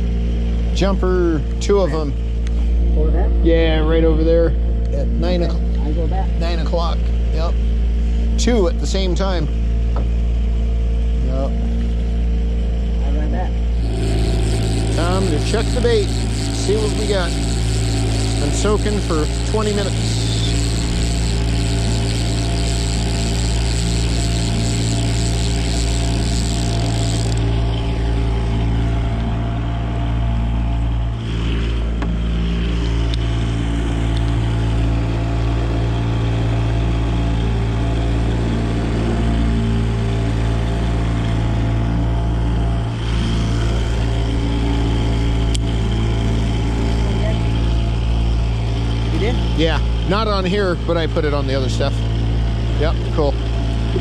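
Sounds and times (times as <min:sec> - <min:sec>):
boat motor droning: 0:00.0 - 0:54.0.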